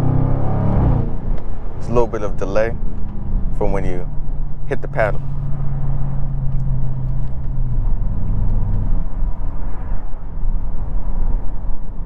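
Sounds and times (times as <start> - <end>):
car exhaust hum: 0.0 - 12.0.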